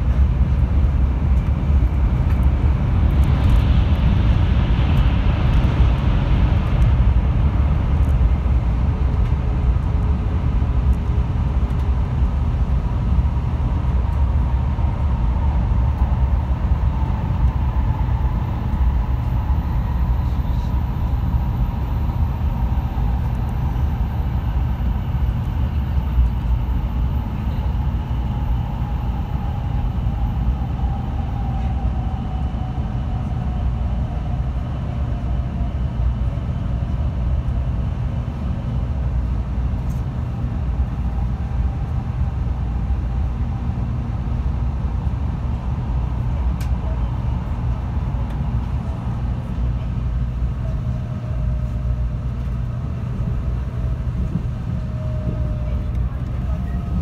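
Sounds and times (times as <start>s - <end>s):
faint whine: 0.0s - 57.0s
train rumbling in tunnel: 0.0s - 57.0s.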